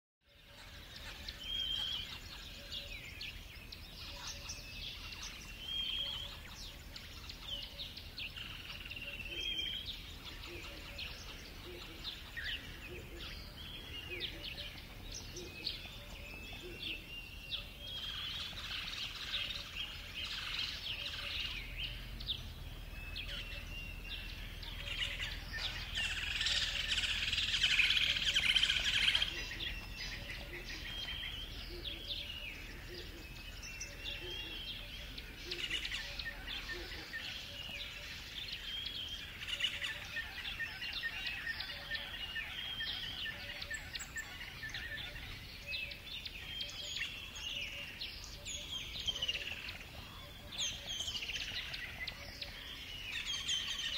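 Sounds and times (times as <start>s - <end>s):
birds chirping and calling: 0.3s - 53.9s
whistled bird notes: 0.3s - 53.9s.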